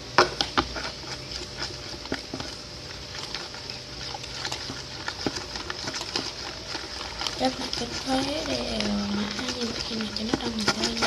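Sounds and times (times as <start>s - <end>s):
slime squelching: 0.0s - 11.0s
stirrer clicks: 0.2s - 11.0s.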